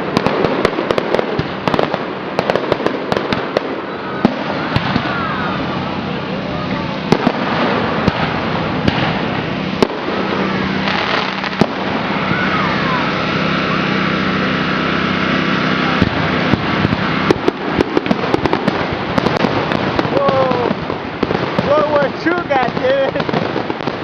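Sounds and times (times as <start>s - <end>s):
fireworks bangs and crackling: 0.0s - 24.0s
crowd din: 2.3s - 24.0s.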